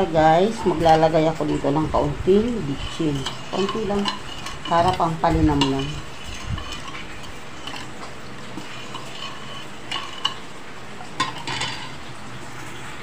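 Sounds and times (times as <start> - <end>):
spoon stirring sauce: 0.0 - 12.1.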